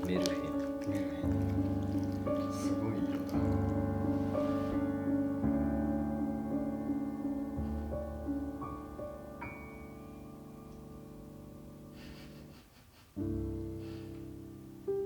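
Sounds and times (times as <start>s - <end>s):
soft piano notes: 0.0s - 12.4s, 13.2s - 15.0s.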